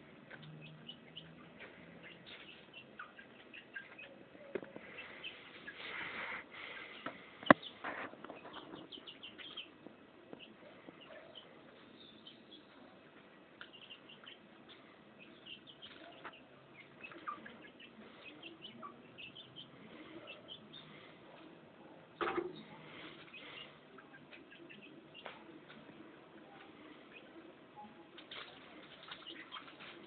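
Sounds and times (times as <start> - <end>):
chicks peeping: 0.1 - 26.0, 26.6 - 30.0.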